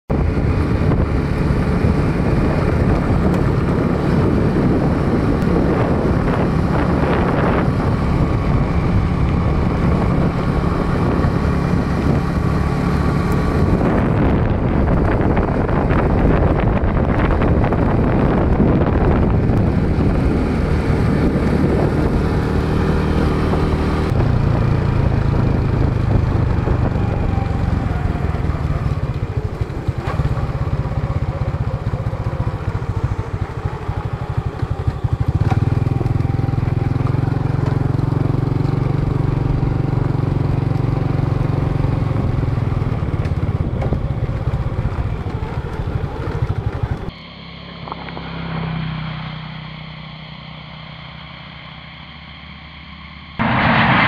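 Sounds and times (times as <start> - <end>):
wind buffeting microphone: 0.1 - 47.2
motorbike engine running: 0.1 - 52.0.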